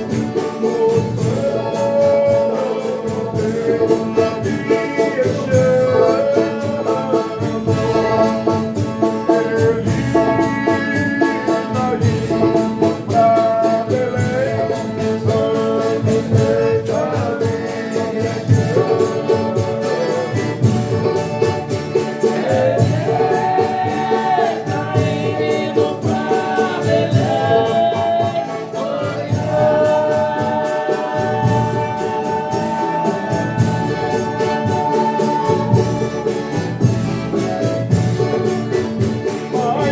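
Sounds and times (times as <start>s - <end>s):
instruments with percussion beat: 0.0s - 39.9s
voices singing in harmony: 0.0s - 39.9s.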